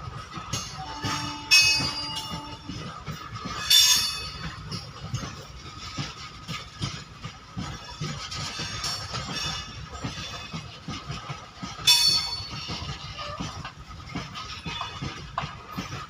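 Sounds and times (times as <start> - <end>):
wheel clatter: 0.0 - 16.0.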